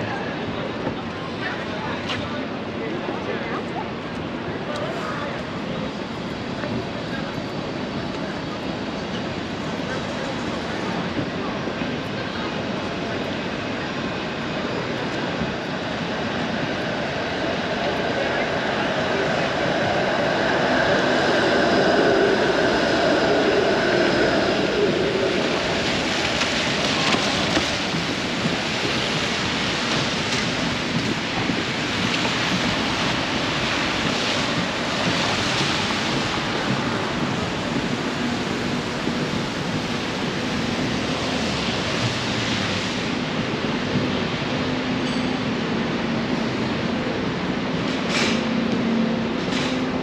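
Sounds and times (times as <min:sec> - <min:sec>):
rain hissing on street: 0:00.0 - 0:50.0
traffic noise: 0:00.0 - 0:50.0.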